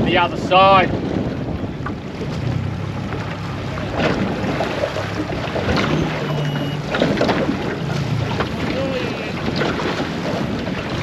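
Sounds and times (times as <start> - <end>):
boat motor humming: 0.0 - 11.0
wind on microphone: 0.0 - 11.0.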